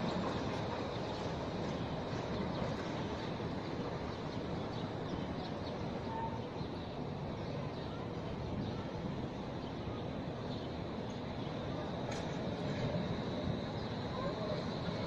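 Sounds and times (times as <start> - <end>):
city street noise: 0.0 - 15.0
tram rumbling along track: 0.0 - 15.0.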